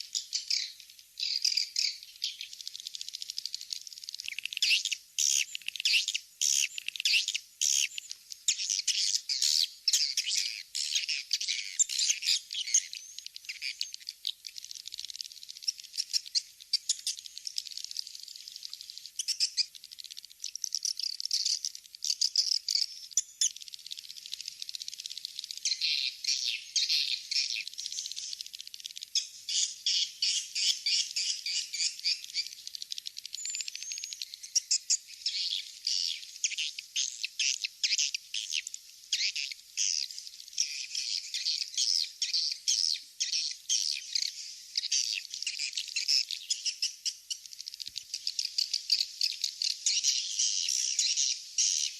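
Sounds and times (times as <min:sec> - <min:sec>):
swiftlets chirping and twittering: 0:00.1 - 0:51.9.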